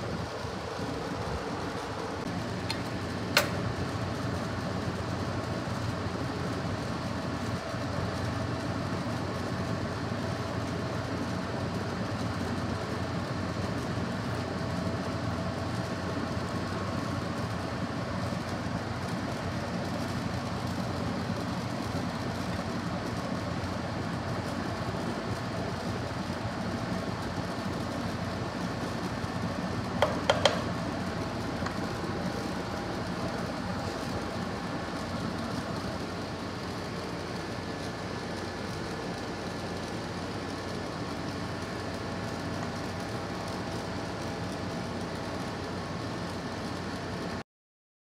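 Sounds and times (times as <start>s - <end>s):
steady mechanical hum: 0.0s - 47.4s.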